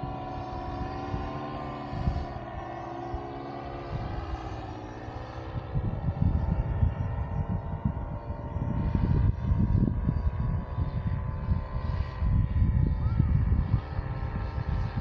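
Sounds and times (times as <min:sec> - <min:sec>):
paramotor engine droning: 0:00.0 - 0:15.0
wind buffeting microphone: 0:00.0 - 0:15.0.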